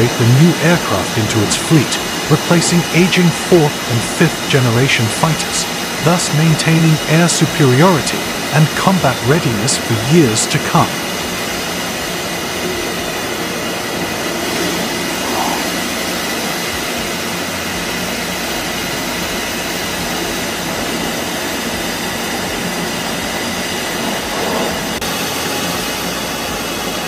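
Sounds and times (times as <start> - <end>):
steady jet engine rushing: 0.0 - 27.0.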